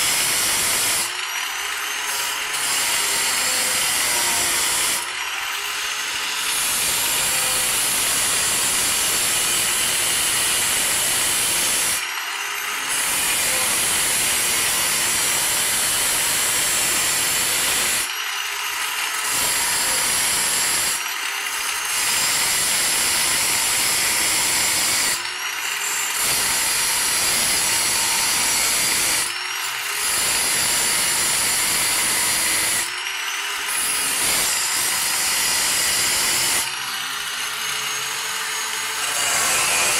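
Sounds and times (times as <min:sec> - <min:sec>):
electric grinder cutting metal: 0:00.0 - 0:39.9.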